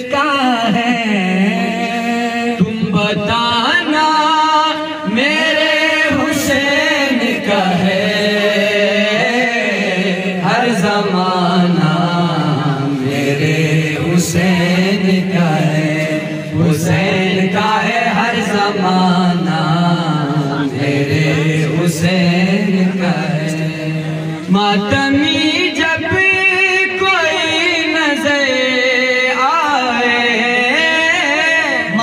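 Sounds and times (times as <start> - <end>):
men singing into microphones: 0.0 - 32.0.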